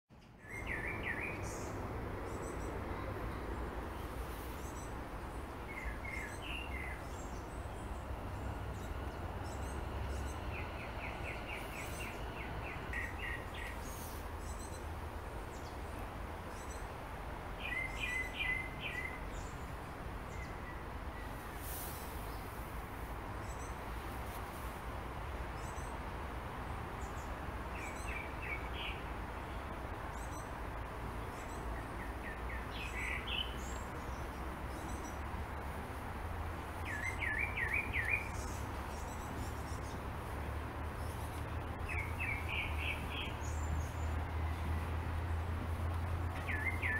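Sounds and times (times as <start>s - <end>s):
small birds chirping: 0.1s - 24.8s, 26.8s - 46.9s
outdoor hiss: 2.8s - 46.9s.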